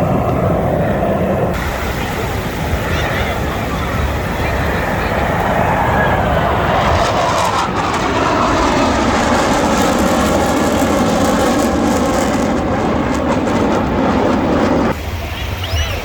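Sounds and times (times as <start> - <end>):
jet engines roaring past: 0.0 - 16.0.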